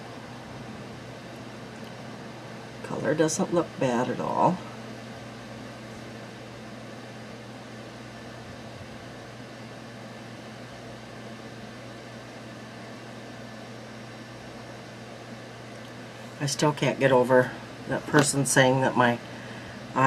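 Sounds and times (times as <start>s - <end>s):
fan hum and hiss: 0.0s - 20.0s.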